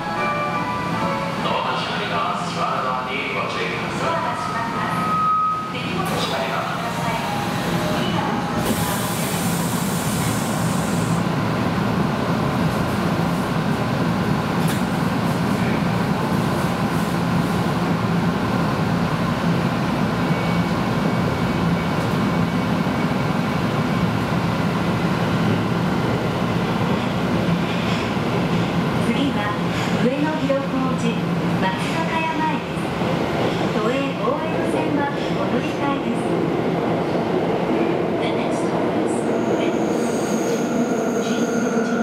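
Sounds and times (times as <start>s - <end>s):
train rumble and hum: 0.0s - 42.0s.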